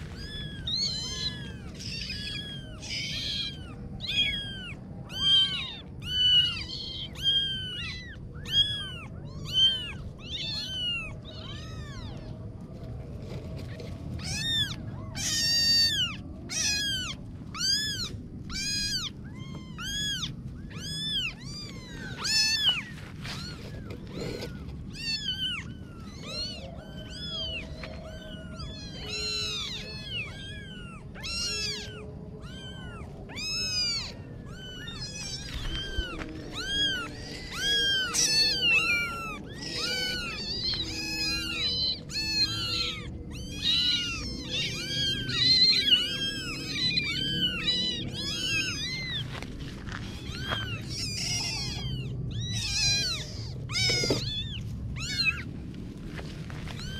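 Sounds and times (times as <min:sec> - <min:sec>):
kittens meowing: 0:00.0 - 0:56.9.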